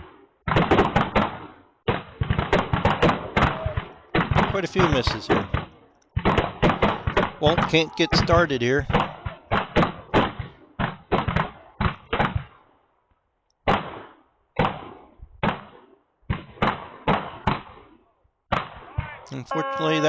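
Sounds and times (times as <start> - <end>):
revolver gunshots echoing: 0.5 - 12.6, 13.6 - 17.8.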